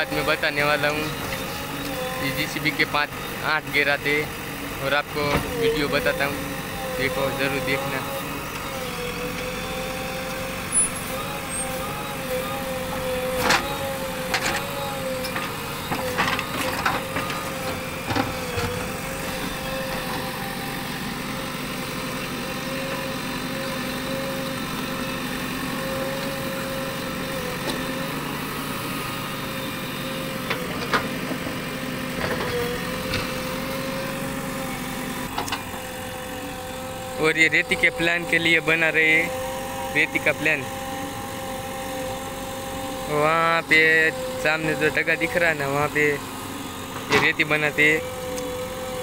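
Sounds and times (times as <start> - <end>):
backhoe digging earth and stones: 0.0 - 49.0
diesel engine running: 0.0 - 49.0.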